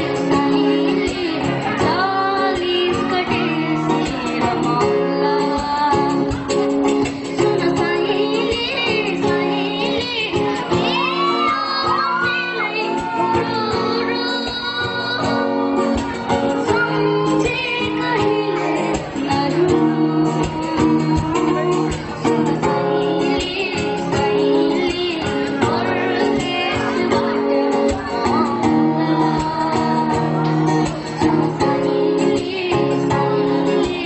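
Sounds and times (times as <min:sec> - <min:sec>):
acoustic guitar strumming: 0:00.0 - 0:34.0
person singing: 0:00.0 - 0:34.0.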